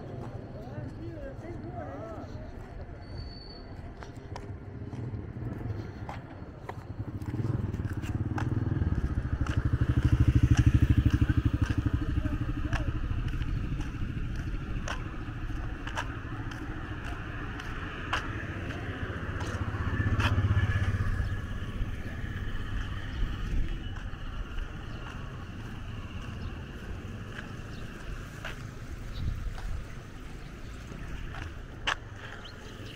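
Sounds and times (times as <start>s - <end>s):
vehicle engines passing: 3.6s - 32.9s.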